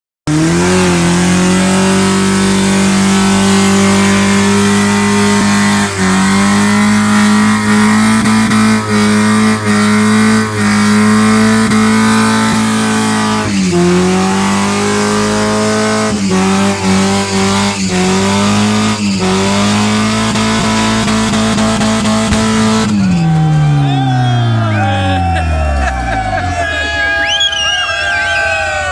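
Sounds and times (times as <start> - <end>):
engine revving high: 0.3 - 27.5.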